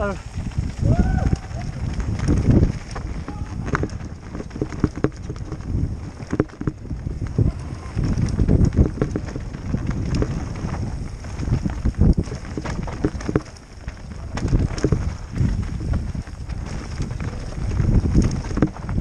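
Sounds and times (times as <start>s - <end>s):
bike rattling and knocking: 0.0s - 19.0s
tyres rumbling on dirt: 0.0s - 19.0s
wind buffeting microphone: 0.0s - 19.0s.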